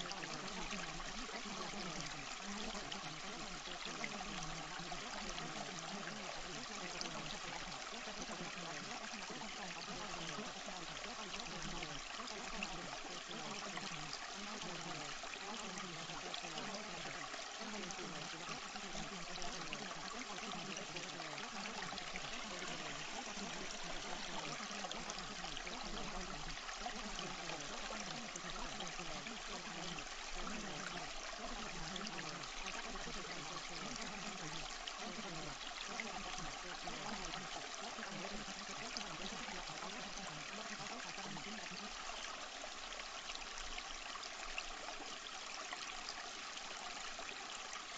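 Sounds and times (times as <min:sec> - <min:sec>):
babbling stream: 0:00.0 - 0:47.9.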